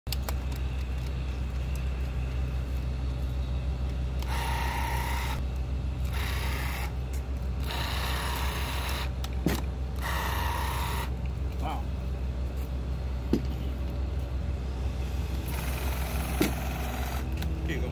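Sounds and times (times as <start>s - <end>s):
low engine hum: 0.1s - 17.9s.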